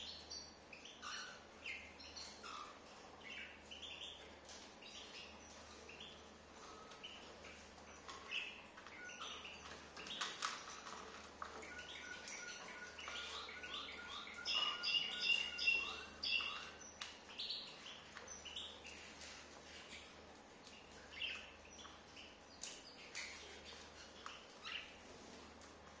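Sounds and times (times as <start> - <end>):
cockatiels chirping: 0.0 - 25.2.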